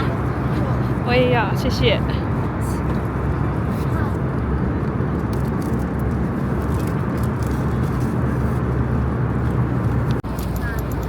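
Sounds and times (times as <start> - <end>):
engines and rushing air roar: 0.0 - 11.0.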